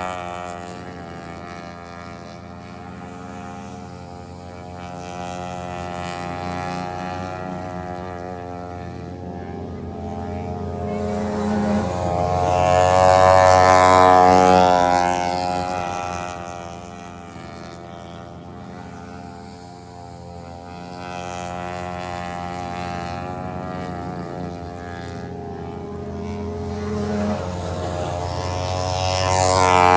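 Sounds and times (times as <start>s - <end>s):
riding lawn mower engine: 0.0s - 29.9s.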